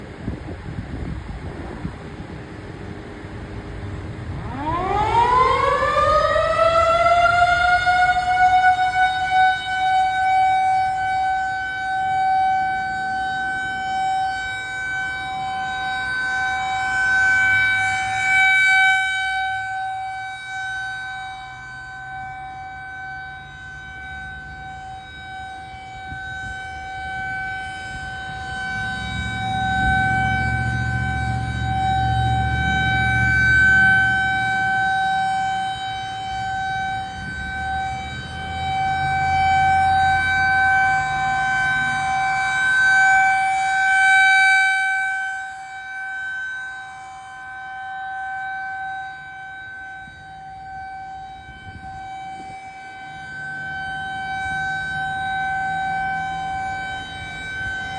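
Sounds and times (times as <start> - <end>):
warning siren winding up: 4.4 - 57.9.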